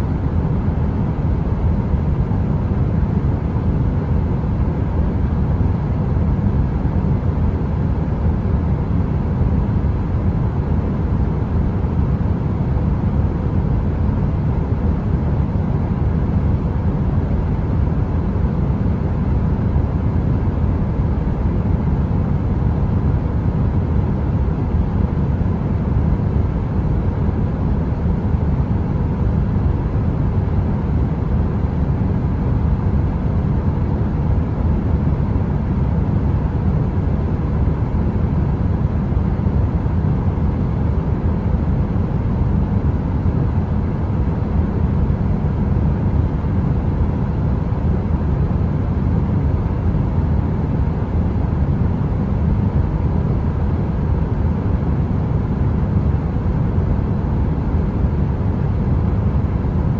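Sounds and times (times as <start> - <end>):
faint two-tone hum: 0.0 - 59.9.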